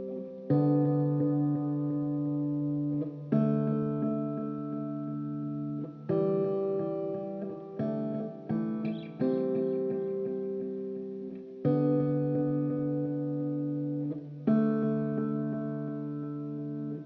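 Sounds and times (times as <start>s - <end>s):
slow guitar chords ringing: 0.0s - 17.0s.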